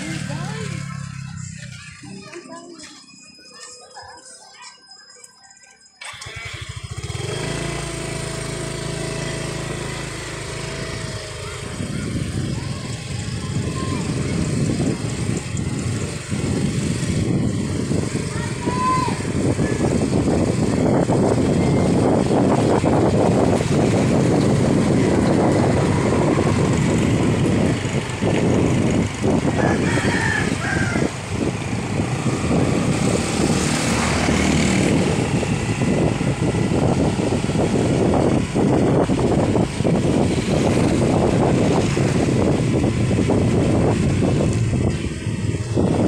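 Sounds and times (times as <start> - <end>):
motorcycle engine: 0.0 - 2.5, 6.0 - 46.0
wind rumbling on microphone: 6.6 - 46.0.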